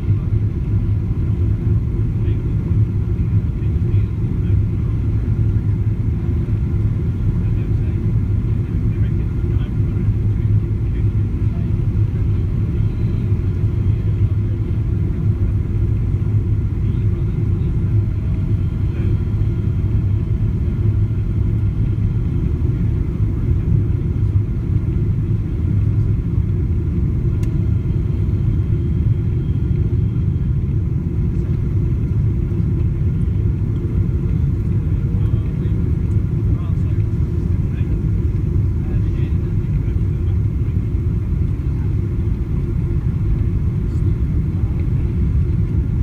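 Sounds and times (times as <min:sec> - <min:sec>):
airliner cabin rumble: 0:00.0 - 0:46.0.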